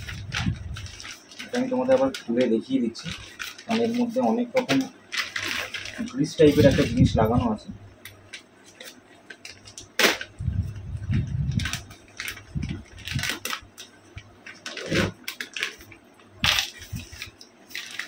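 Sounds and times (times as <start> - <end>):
plastic packet crinkling: 0.0 - 7.3, 8.1 - 18.0.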